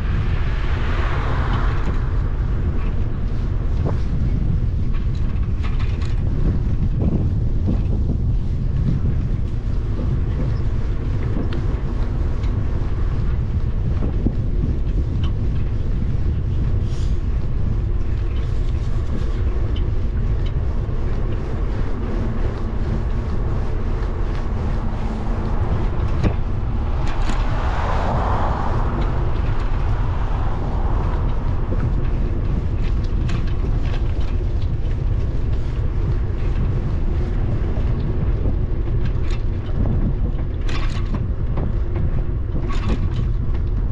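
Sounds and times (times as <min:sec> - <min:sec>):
bicycle rolling on asphalt: 0:00.0 - 0:43.9
wind buffeting microphone: 0:00.0 - 0:43.9.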